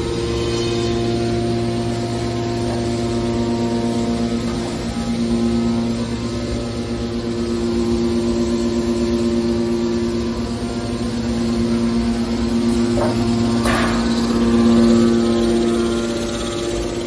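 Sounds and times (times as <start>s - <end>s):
hydraulic pump motor humming: 0.0s - 17.0s.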